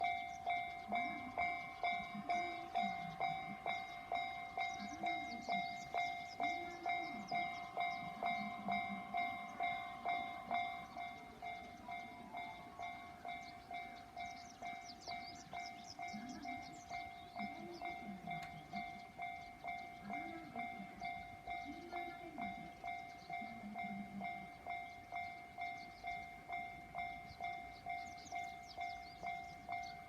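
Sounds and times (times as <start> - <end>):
high chirps: 0.0 - 30.0
level crossing warning bell: 0.0 - 30.0.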